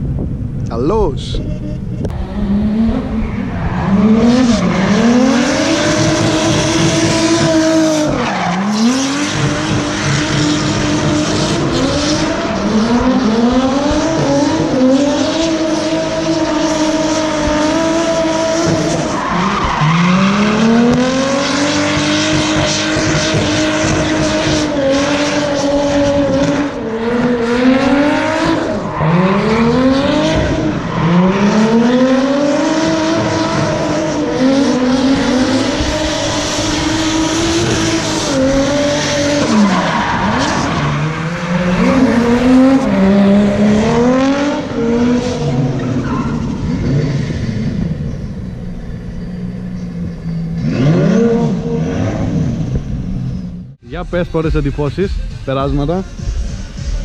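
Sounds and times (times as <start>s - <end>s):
tyres squealing and skidding: 1.4s - 53.7s
car engine revving hard: 1.6s - 48.4s, 50.5s - 53.5s.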